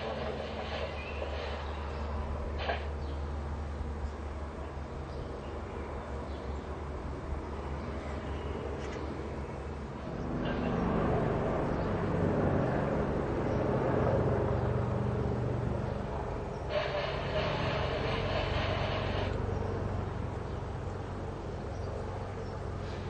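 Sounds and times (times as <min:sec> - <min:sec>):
airship propeller engines droning: 0:00.0 - 0:23.0.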